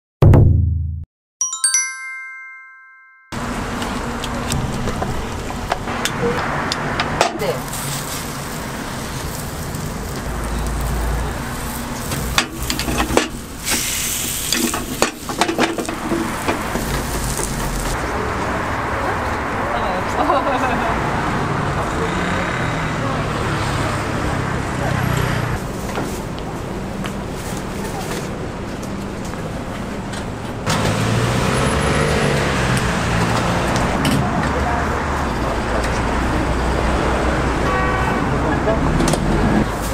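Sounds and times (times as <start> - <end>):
road noise: 3.3 - 39.9.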